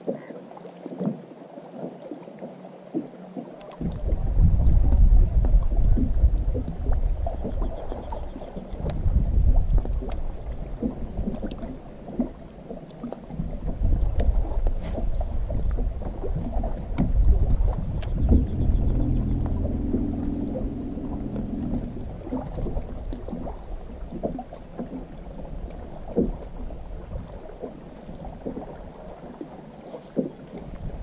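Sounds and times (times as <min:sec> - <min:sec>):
wind rumbling on microphone: 0:03.7 - 0:29.4, 0:30.3 - 0:31.0.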